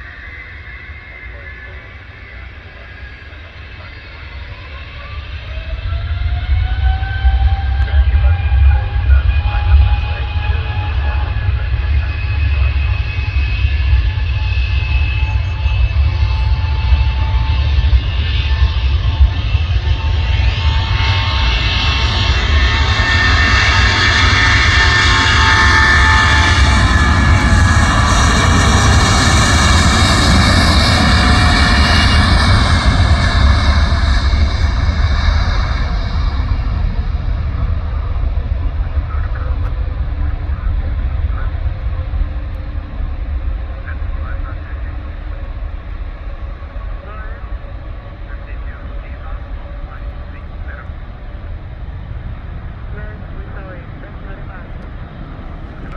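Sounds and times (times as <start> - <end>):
jet engines at takeoff power: 0.0 - 55.9.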